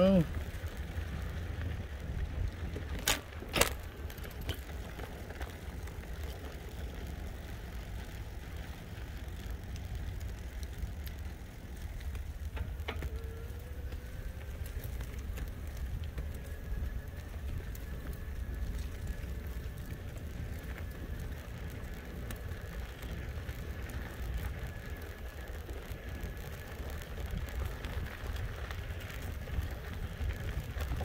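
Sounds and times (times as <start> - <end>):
faint rising whine: 0.0 - 31.0
wind and road noise: 0.0 - 31.0.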